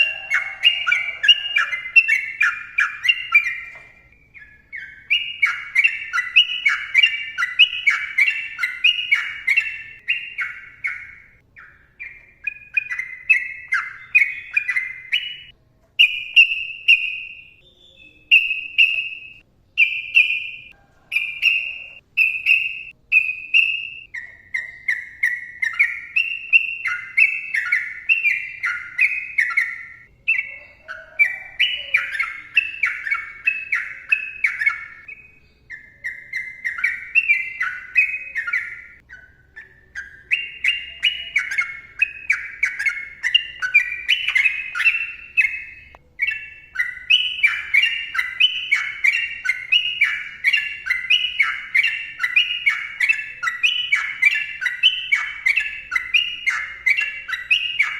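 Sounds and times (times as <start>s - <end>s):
bulbul singing whistled phrases: 0.0s - 57.9s.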